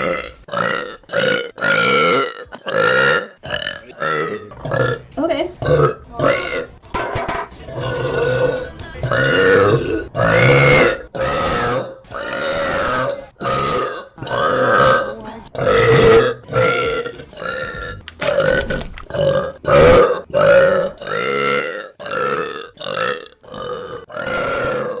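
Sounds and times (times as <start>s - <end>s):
woman burping loudly: 0.0s - 6.7s, 7.7s - 25.0s.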